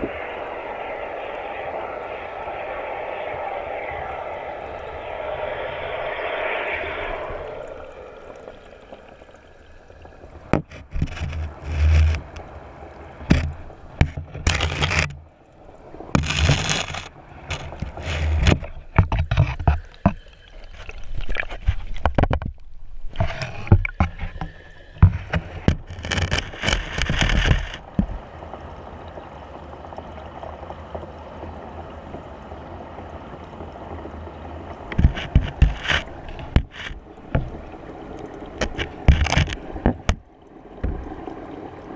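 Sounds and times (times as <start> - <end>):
muffled water hiss: 0.0 - 41.9
water sloshing and splashing: 0.0 - 41.9.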